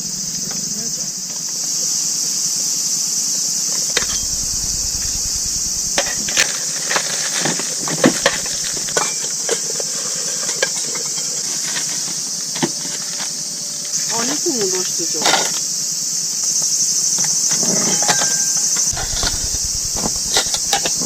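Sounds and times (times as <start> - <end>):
cicadas buzzing: 0.0 - 21.0.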